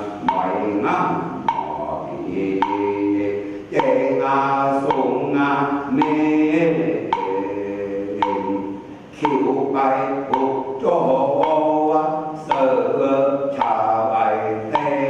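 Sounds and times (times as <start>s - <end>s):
sharp knock keeping time: 0.0s - 15.0s.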